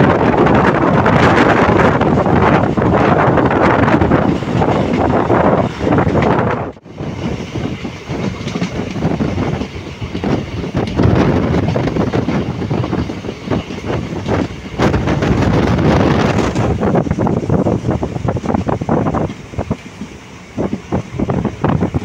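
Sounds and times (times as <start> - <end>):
rushing air: 0.0 - 22.0
train wheels rumbling on rails: 0.0 - 22.0
wheels clicking over rail joints: 0.0 - 22.0.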